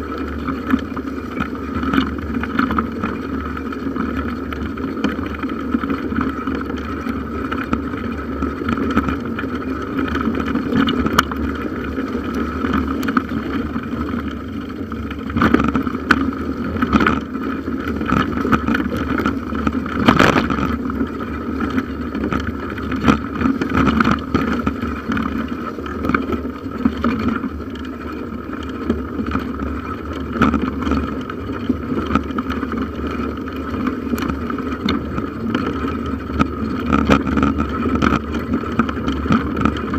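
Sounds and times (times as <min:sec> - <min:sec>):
bicycle knocks and rattles: 0:00.0 - 0:39.9
bicycle tyres rumbling: 0:00.0 - 0:39.9.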